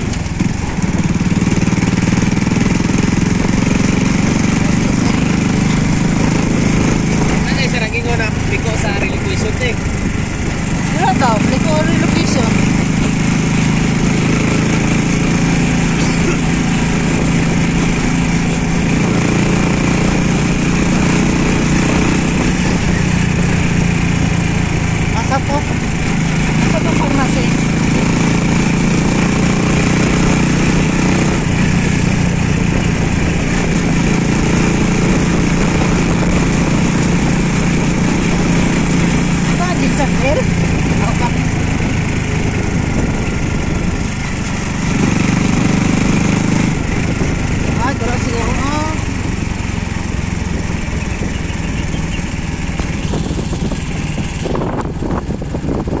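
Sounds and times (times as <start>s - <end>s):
small motorcycle engine running: 0.0s - 56.0s
wind and road noise: 0.0s - 56.0s.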